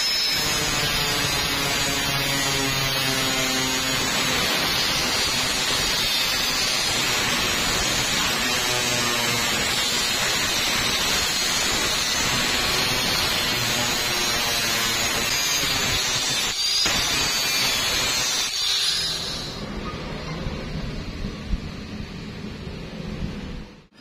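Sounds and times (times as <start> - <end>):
angle grinder grinding steel: 0.0 - 19.6.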